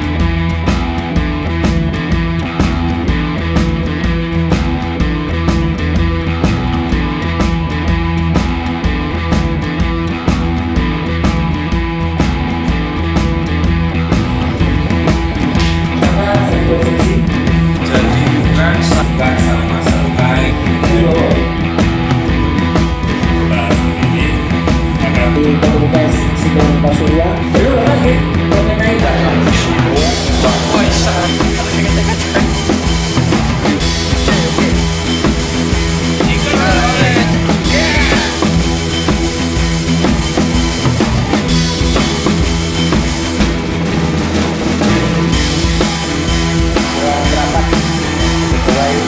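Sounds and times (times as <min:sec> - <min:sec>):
drum kit beat: 0:00.0 - 0:49.0
rock band music: 0:00.0 - 0:49.0.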